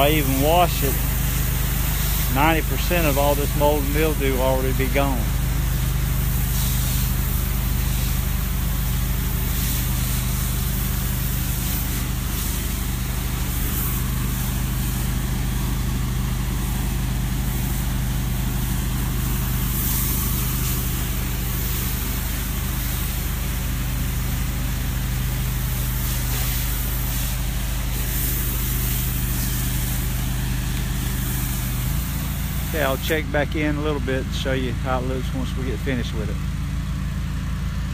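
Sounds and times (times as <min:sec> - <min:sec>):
hose wand spraying hiss: 0:00.0 - 0:33.4
engine humming: 0:00.0 - 0:37.9.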